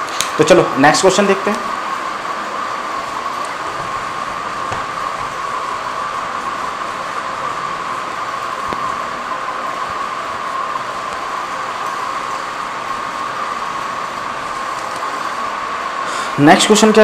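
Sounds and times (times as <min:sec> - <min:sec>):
mid-pitched whine: 0:00.0 - 0:17.0
steady background hiss: 0:00.0 - 0:17.0.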